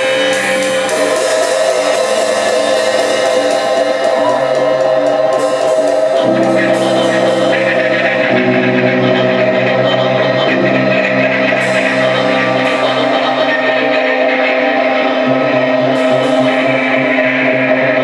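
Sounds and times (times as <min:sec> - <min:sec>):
electric guitars sustained notes: 0:00.0 - 0:18.0
electric violin sustained notes: 0:00.0 - 0:18.0.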